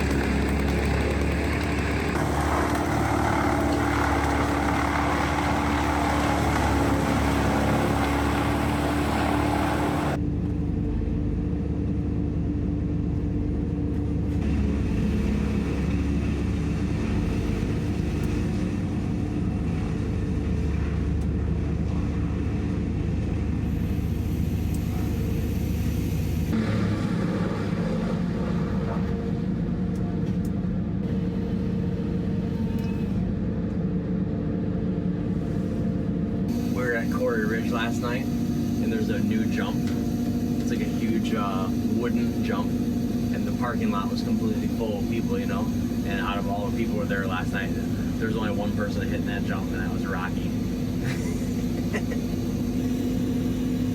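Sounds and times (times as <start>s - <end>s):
constant low hum: 0.0s - 53.9s
diesel engine running: 0.0s - 53.9s.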